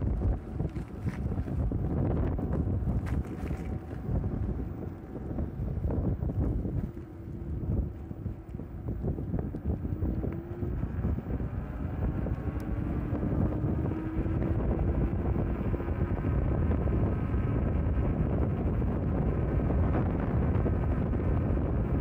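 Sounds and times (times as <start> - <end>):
faint motor whine: 0.0 - 22.0
wind buffeting microphone: 0.0 - 22.0.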